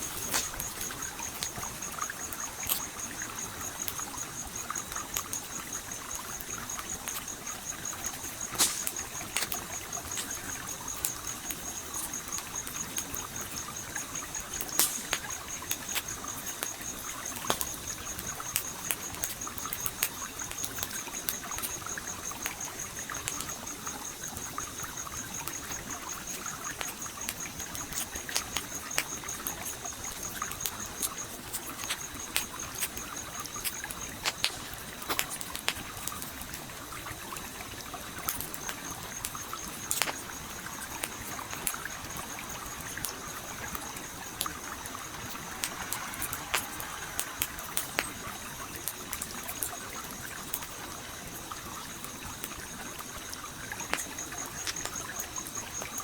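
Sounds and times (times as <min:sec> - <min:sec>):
campfire crackling and popping: 0:00.0 - 0:56.0
trickling stream: 0:00.0 - 0:56.0.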